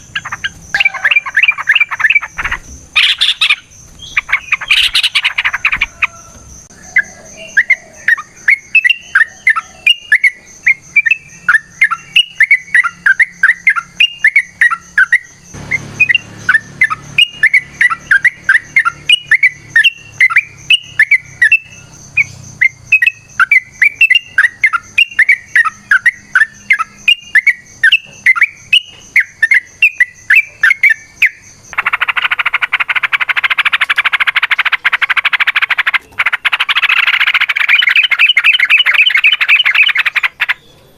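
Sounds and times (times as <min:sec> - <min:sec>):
bird singing rapid chirps: 0:00.0 - 0:40.9
steady high-pitched whine: 0:06.4 - 0:40.9.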